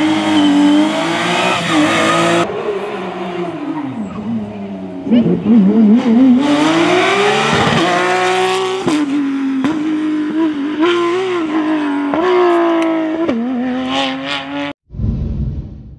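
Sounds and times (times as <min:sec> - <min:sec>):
rally car engine revving through gears: 0:00.0 - 0:14.8.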